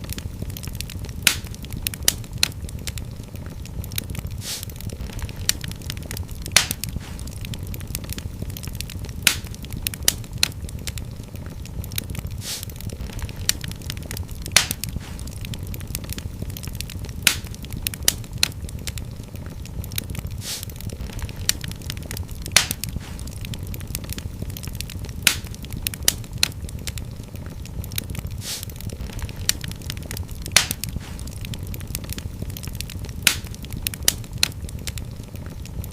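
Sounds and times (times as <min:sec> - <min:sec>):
fireplace fire crackling: 0:00.0 - 0:35.9
low rumble of flame: 0:00.0 - 0:35.9.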